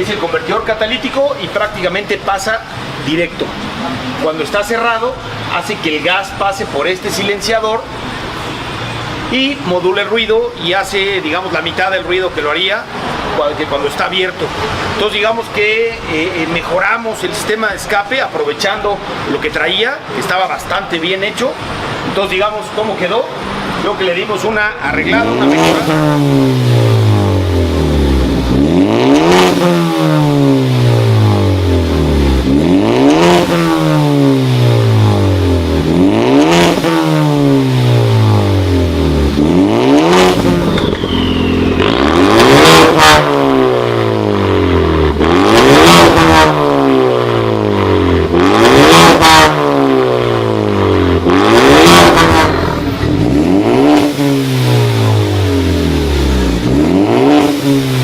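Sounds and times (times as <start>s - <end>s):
car engine revving: 0.0s - 18.0s, 19.0s - 58.0s.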